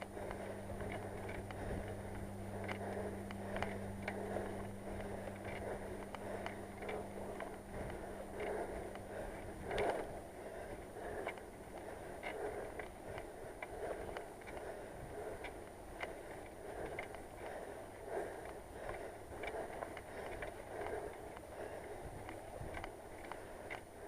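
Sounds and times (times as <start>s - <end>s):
bicycle hub clicking: 0.0s - 23.9s.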